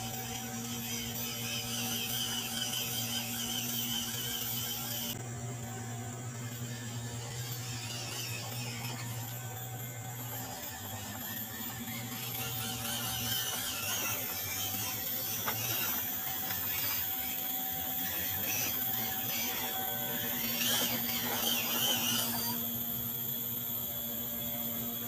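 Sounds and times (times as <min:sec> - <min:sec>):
toy truck electric motor running: 0:00.0 - 0:25.0.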